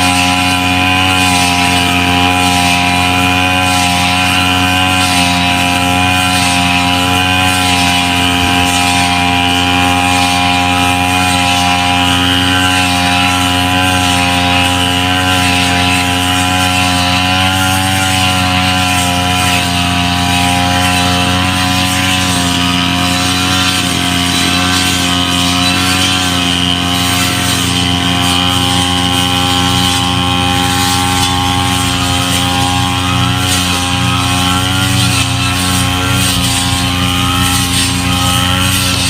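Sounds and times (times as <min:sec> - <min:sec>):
brush cutter engine running: 0:00.0 - 0:39.0.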